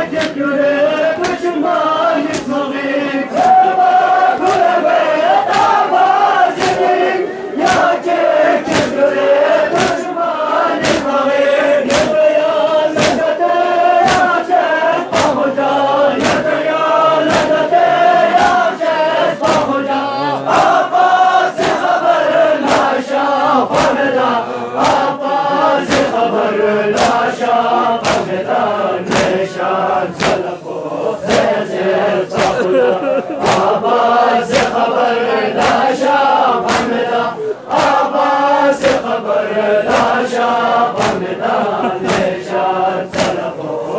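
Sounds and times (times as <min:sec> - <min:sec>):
men chanting a lament: 0:00.0 - 0:43.9
rhythmic chest-beating strikes: 0:00.0 - 0:43.9.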